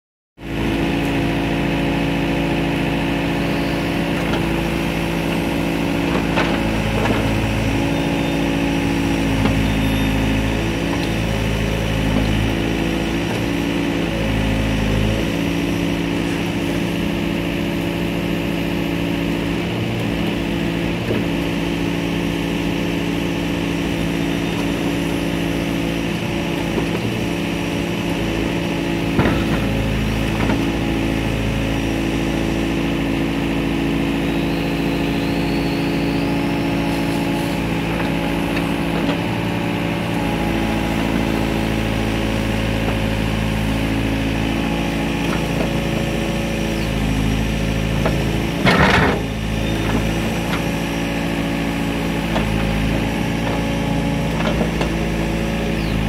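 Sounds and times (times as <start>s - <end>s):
excavator diesel engine running: 0.4s - 56.0s
hydraulics moving bucket: 2.7s - 56.0s.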